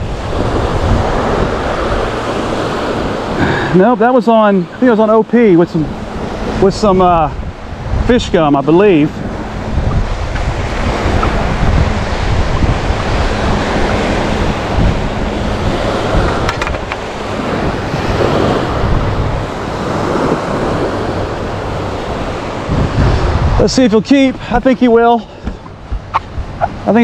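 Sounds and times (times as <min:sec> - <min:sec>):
waves washing onto sand: 0:00.0 - 0:27.0
wind buffeting microphone: 0:00.0 - 0:27.0.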